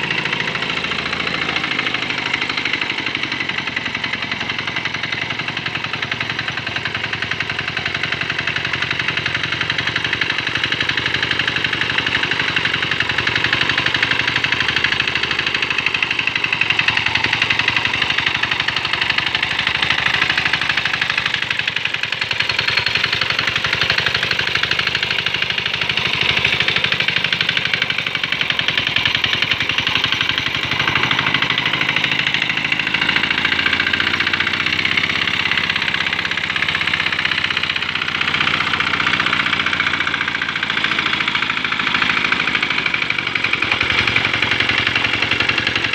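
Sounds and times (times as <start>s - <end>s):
small diesel engine knocking: 0.0s - 45.9s.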